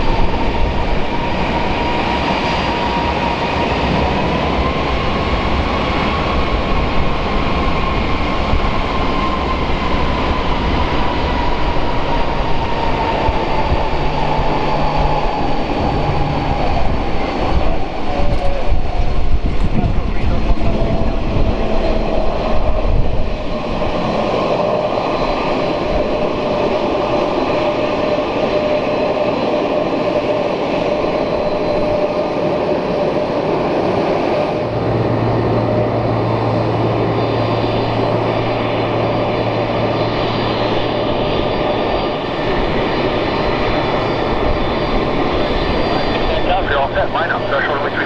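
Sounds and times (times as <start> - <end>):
jet engine roar with whine: 0.0 - 48.0.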